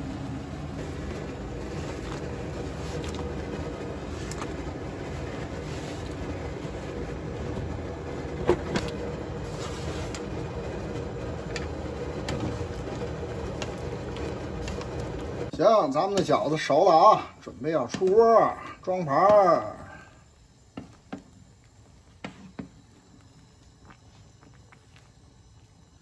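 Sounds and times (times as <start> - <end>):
water boiling in a pan: 0.0 - 26.0.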